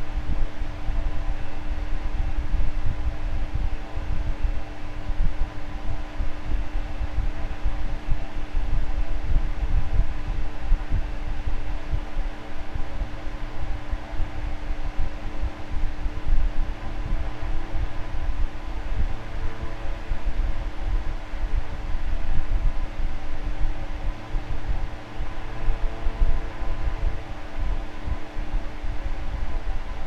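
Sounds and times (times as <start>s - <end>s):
electric fan running: 0.0s - 30.0s.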